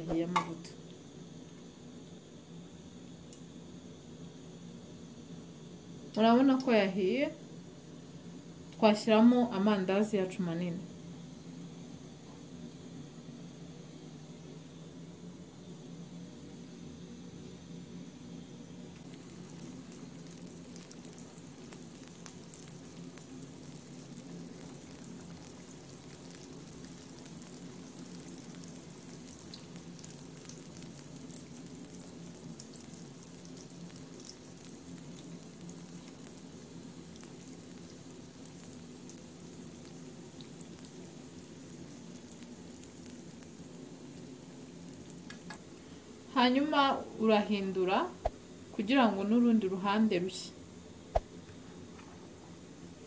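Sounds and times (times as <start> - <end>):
dough deep-frying in oil: 0.0 - 53.0.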